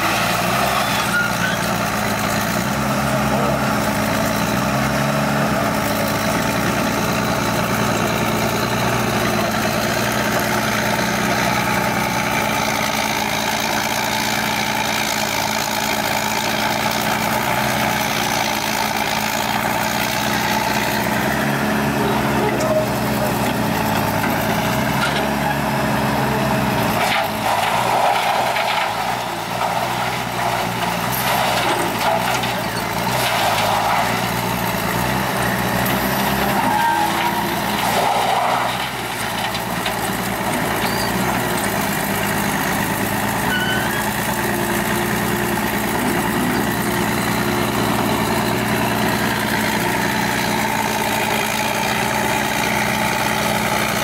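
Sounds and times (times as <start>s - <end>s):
excavator working: 0.0s - 54.0s
harsh grinding noise: 0.0s - 54.0s.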